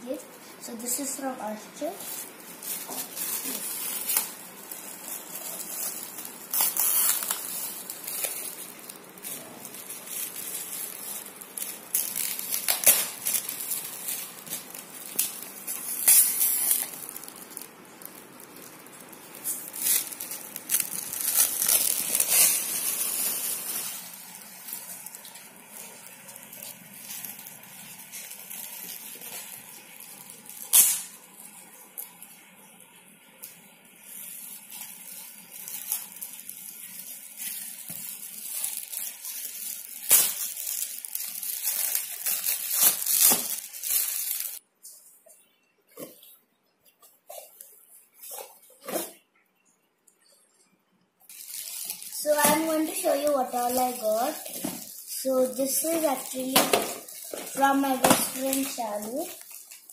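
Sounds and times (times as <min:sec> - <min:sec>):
foil gift wrap crinkling and tearing: 0:00.1 - 0:32.5, 0:33.5 - 0:44.6, 0:51.3 - 0:59.9.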